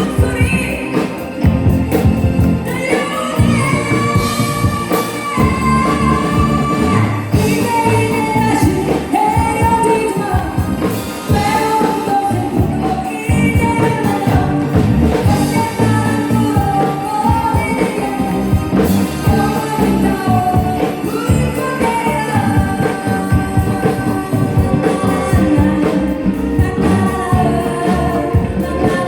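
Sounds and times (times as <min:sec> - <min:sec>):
bass: 0:00.0 - 0:29.0
drums: 0:00.0 - 0:29.0
person singing lead vocal: 0:00.0 - 0:29.0.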